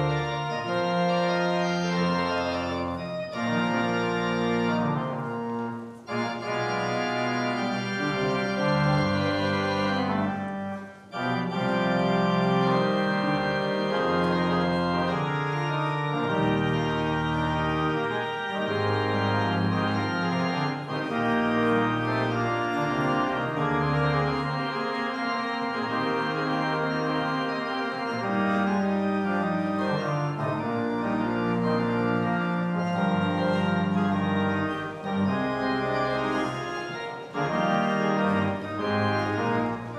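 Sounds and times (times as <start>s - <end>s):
organ playing held chords: 0.0s - 39.9s.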